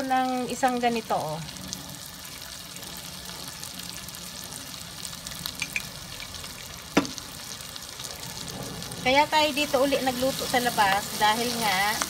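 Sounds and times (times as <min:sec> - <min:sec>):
hot fat sizzling in a wok: 0:00.0 - 0:12.0.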